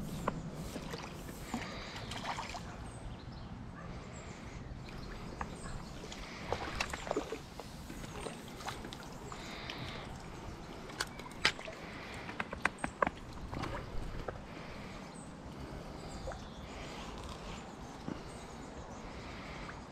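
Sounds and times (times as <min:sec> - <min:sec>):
water splashing and sloshing: 0:00.0 - 0:03.0, 0:04.8 - 0:18.3.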